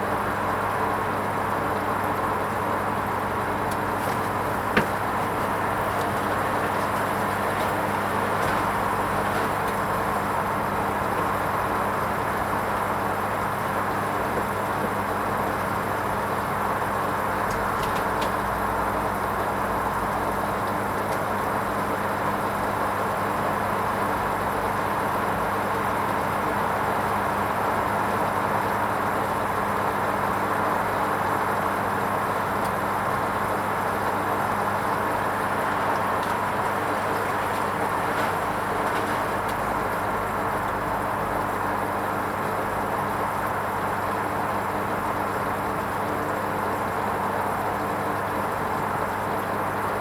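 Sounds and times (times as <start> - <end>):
washing machine humming: 0.0 - 50.0.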